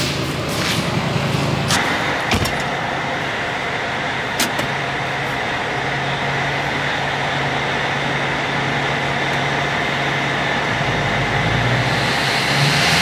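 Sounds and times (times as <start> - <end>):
high whine: 0.0 - 13.0
truck engine running: 0.0 - 13.0.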